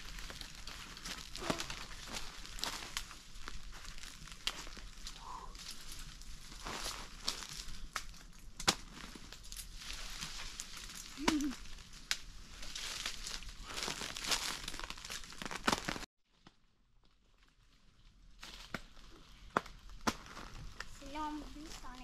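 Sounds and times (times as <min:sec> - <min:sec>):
crinkling and rustling: 0:00.0 - 0:22.0.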